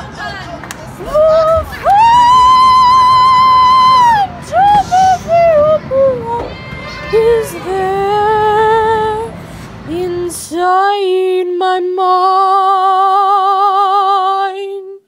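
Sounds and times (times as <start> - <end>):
background noise: 0.0 - 15.0
woman singing unaccompanied: 1.0 - 15.0.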